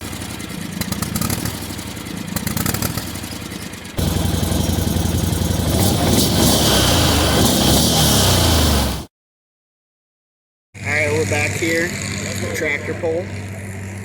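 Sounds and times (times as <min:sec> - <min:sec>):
engine running: 0:00.0 - 0:09.1, 0:10.8 - 0:14.0.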